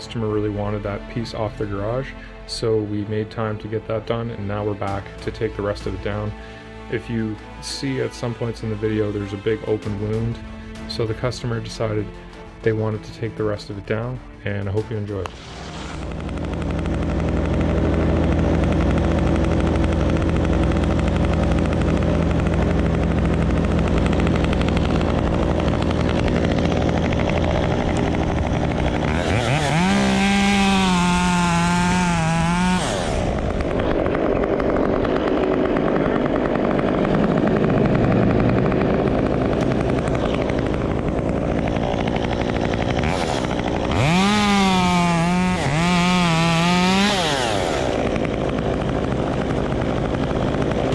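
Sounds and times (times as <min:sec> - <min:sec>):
chainsaw revving: 0:00.2 - 0:50.9.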